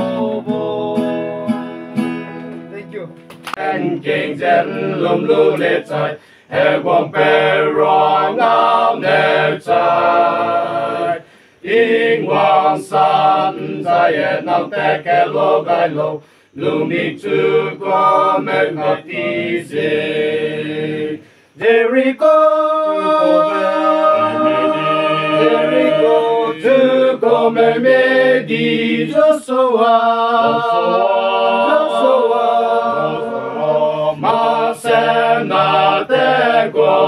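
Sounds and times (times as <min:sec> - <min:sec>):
group singing in harmony: 0:00.0 - 0:02.0, 0:03.5 - 0:37.0.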